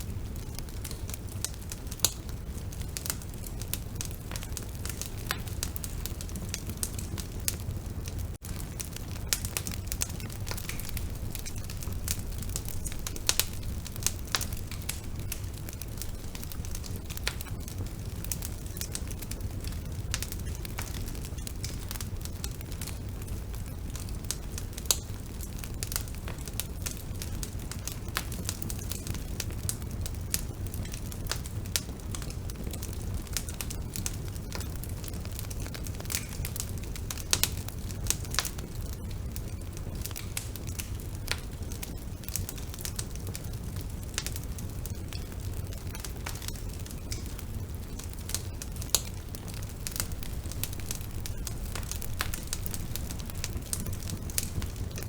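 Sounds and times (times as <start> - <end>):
bonfire flames rumbling: 0.0 - 55.0
burning wood crackling and popping: 0.0 - 55.0.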